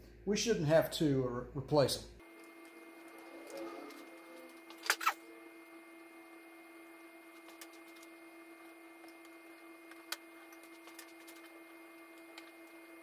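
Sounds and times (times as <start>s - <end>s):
low hum: 1.3s - 13.0s.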